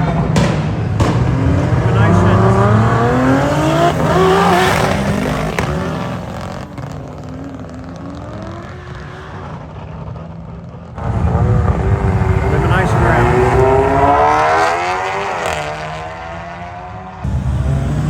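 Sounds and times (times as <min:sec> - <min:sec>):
racing car engines at full throttle: 0:00.0 - 0:18.0.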